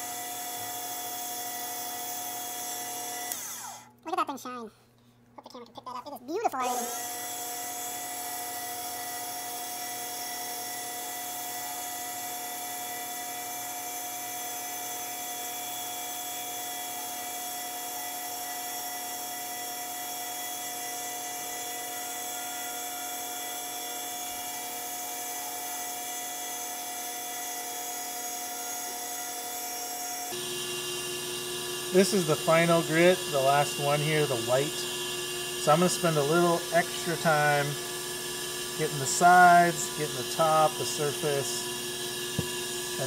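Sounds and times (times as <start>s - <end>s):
lathe motor high whine: 0.0s - 3.9s, 6.6s - 43.0s.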